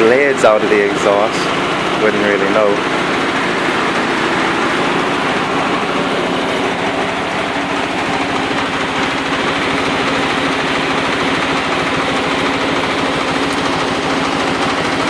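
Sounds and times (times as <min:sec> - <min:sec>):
car engine idling unevenly: 0:00.0 - 0:15.0.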